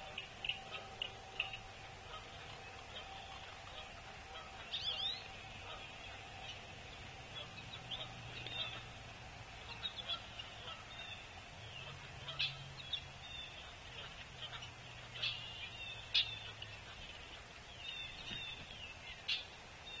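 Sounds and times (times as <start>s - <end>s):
birds calling and chirping: 0.0s - 20.0s
faint low hum: 0.0s - 20.0s.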